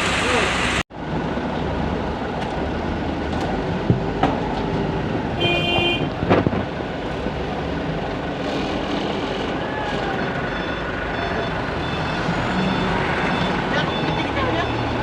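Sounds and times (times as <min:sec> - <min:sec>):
heavy construction machinery running: 0:00.0 - 0:15.0.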